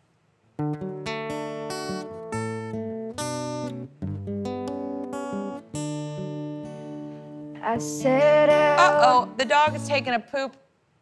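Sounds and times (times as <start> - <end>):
acoustic guitar strummed chords: 0.6 - 10.1.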